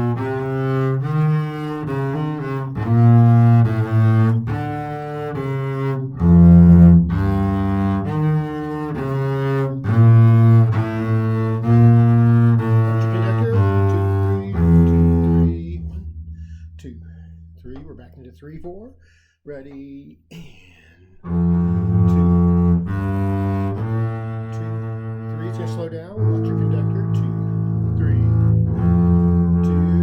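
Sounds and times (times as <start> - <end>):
bowed double bass notes: 0.0 - 18.6, 21.2 - 30.0.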